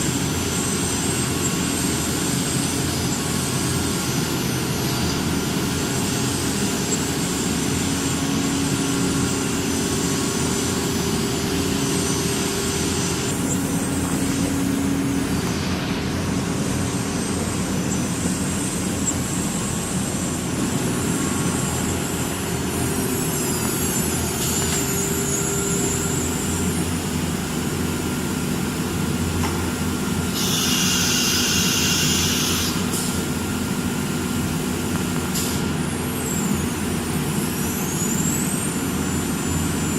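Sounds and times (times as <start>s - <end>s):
router machine drone: 0.0s - 39.9s.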